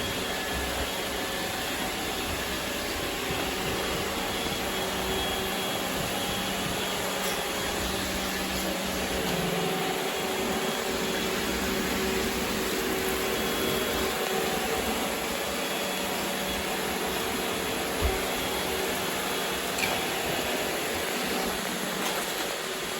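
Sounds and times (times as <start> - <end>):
robot vacuum whirring: 0.0 - 22.9.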